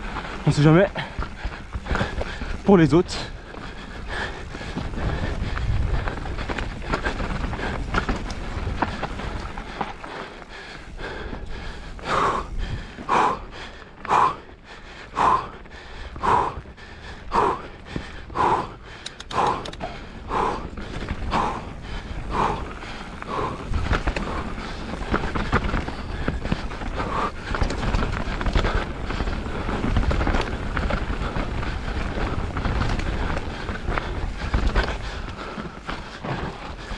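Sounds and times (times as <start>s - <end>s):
person breathing hard: 0.2s - 36.9s.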